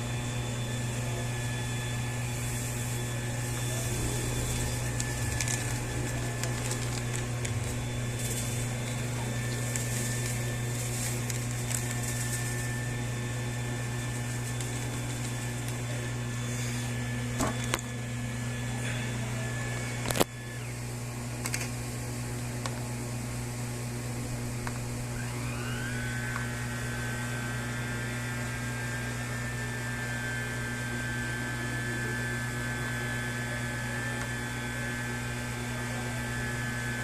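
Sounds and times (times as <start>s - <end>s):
small motor humming: 0.0s - 21.7s, 24.1s - 37.0s.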